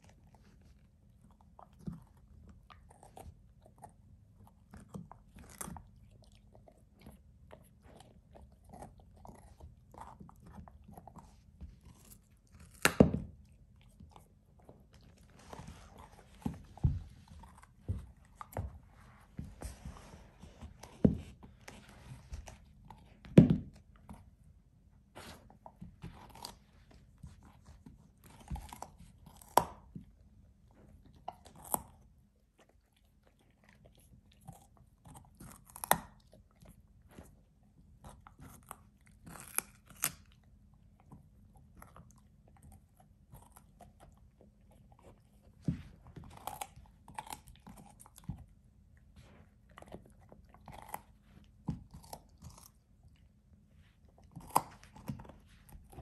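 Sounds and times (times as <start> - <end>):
puppy crunching carrot: 0.0 - 24.4, 25.1 - 56.0.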